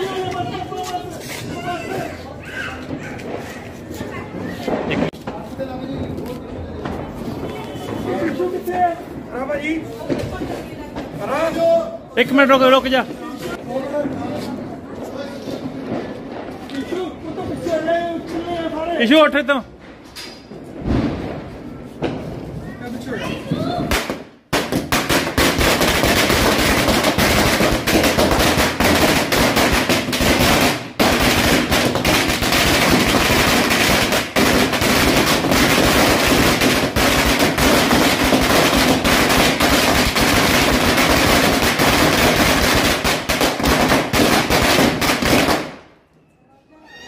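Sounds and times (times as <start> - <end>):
firecrackers crackling: 0.0 - 46.2.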